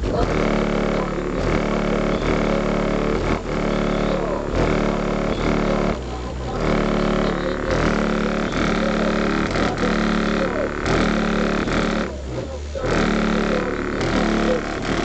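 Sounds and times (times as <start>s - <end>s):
deep bass line: 0.0s - 15.0s
rap music through car stereo: 0.0s - 15.0s.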